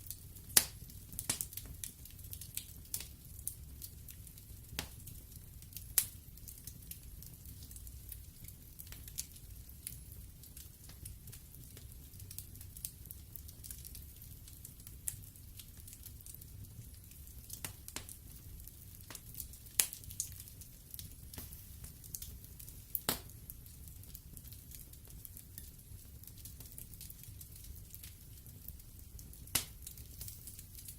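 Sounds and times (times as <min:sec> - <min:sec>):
crackles and pops of burning logs: 0:00.0 - 0:30.9
low rumble of flames: 0:00.0 - 0:30.9.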